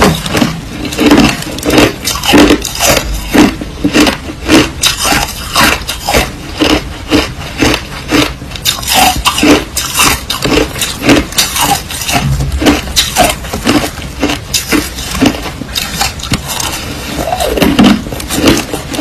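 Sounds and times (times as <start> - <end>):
crushed ice being chewed: 0.0 - 19.0.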